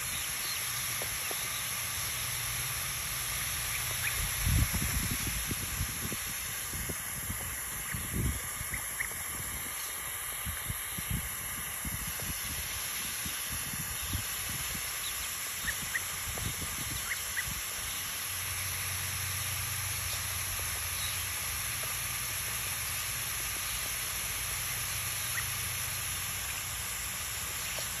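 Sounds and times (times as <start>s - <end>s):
hose nozzle spraying mist: 0.0s - 28.0s.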